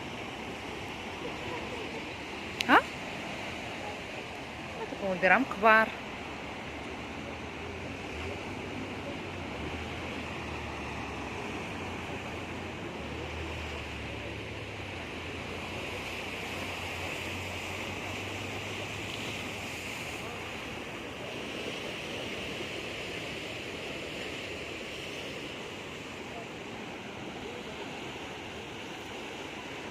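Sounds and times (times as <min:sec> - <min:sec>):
low rumble of wind: 0:00.0 - 0:29.9
sea surf washing onto shore: 0:00.0 - 0:29.9.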